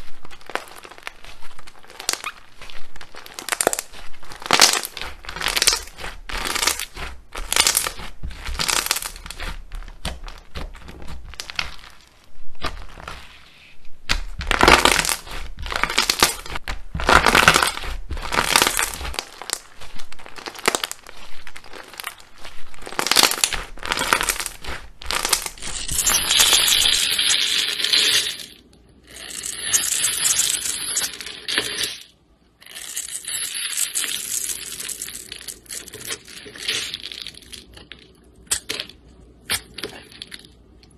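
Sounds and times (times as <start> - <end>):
hissy high slime crackling: 0.0 - 37.7
slime crackling squelches: 0.0 - 40.9.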